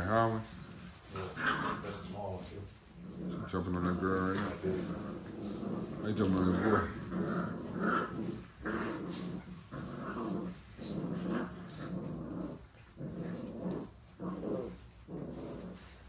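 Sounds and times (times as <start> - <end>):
puppies growling: 0.0 - 16.0.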